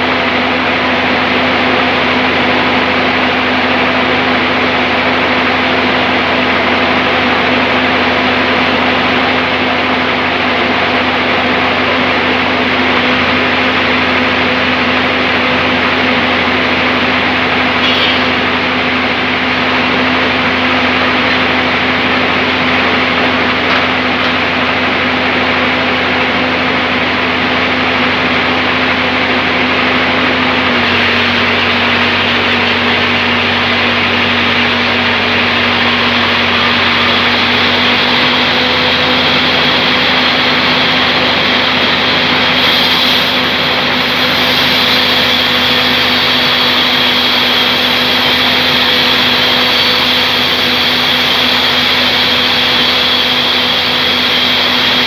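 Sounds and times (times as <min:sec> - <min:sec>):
sawmill saw humming: 0:00.0 - 0:55.0.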